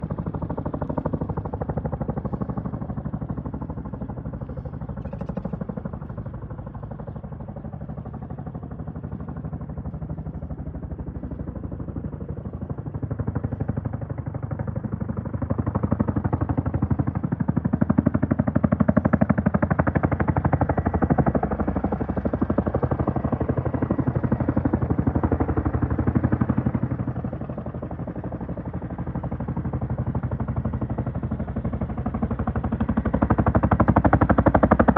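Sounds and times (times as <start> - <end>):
helicopter rotor chop: 0.0 - 34.9.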